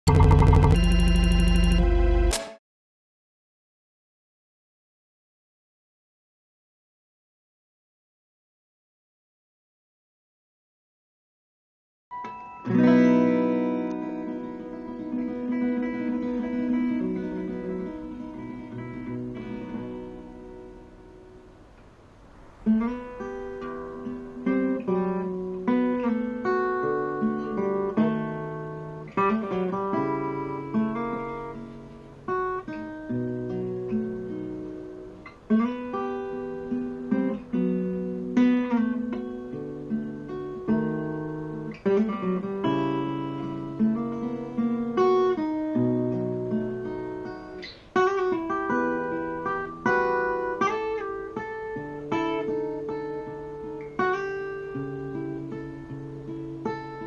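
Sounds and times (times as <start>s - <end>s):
acoustic guitar plucking: 0.1s - 2.3s, 12.1s - 21.5s, 22.6s - 57.0s.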